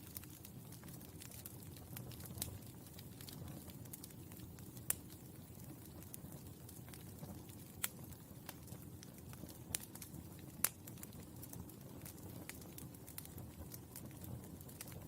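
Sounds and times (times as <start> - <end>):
charcoal crackling: 0.0 - 15.0.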